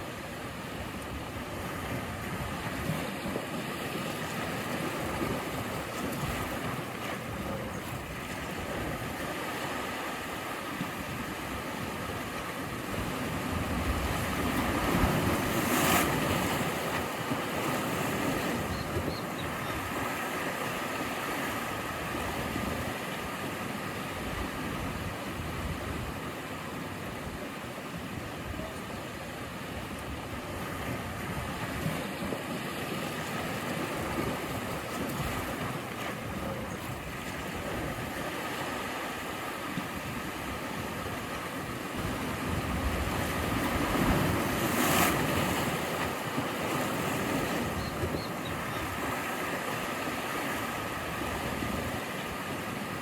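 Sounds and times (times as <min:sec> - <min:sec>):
sea waves surf: 0:00.0 - 0:53.0.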